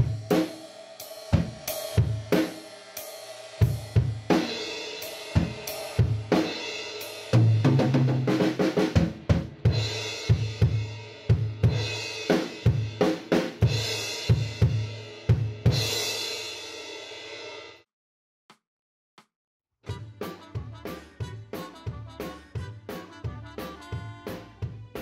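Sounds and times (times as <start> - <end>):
acoustic drum kit beat: 0.0 - 17.5, 19.8 - 25.0.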